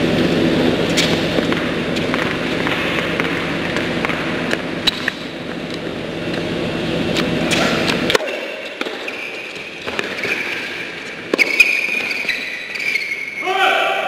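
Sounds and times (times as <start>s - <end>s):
rackets hitting tennis ball: 0.8s - 6.5s, 7.1s - 13.2s.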